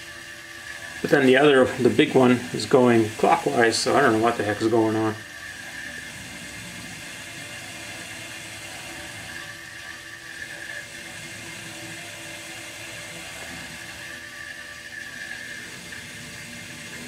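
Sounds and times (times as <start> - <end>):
water circulating through pipes: 0.0 - 17.0
water pump whirring: 0.0 - 17.0.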